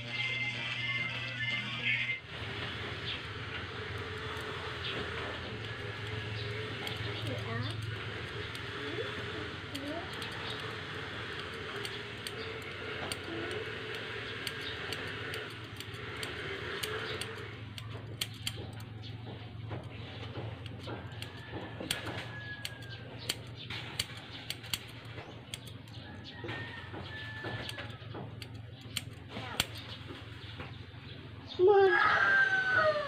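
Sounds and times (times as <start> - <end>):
scissors snipping hair: 2.6 - 30.0.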